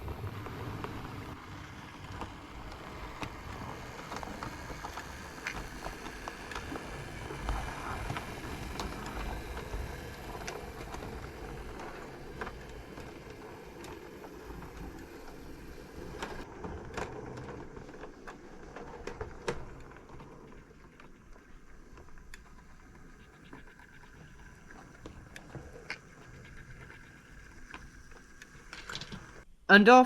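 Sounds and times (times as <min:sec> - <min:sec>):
model train motor and wheels: 0:00.0 - 0:29.5.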